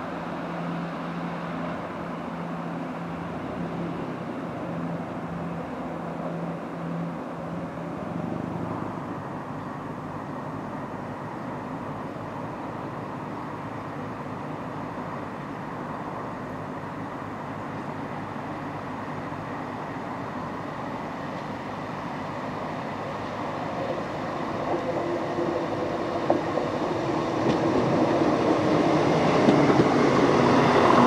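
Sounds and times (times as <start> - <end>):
diesel train rumble and hum: 0.0 - 31.0.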